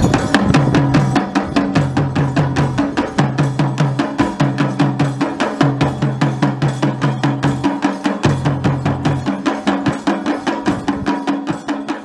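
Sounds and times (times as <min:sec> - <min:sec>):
drums in fast even rhythm: 0:00.0 - 0:12.0.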